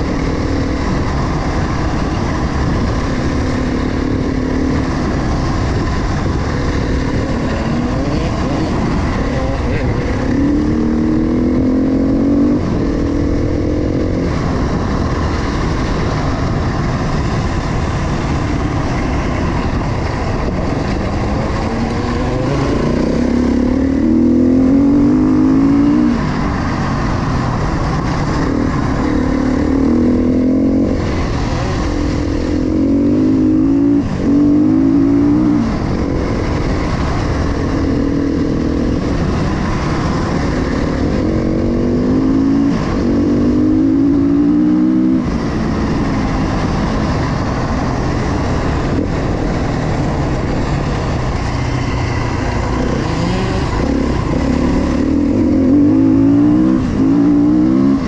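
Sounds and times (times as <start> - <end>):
dirt bike engine revving: 0.0 - 16.1, 16.8 - 58.0
wind and tyre noise: 0.0 - 58.0.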